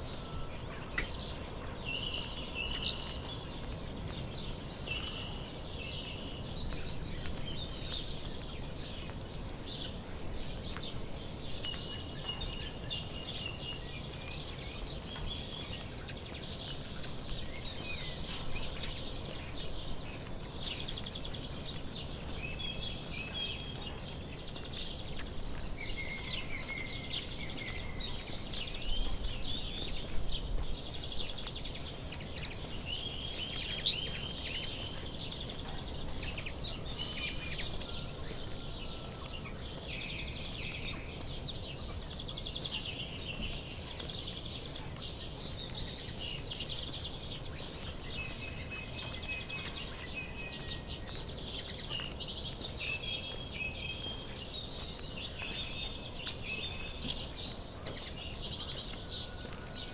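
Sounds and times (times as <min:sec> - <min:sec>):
low background noise: 0:00.0 - 0:59.9
small birds singing and chirping: 0:00.0 - 0:59.9.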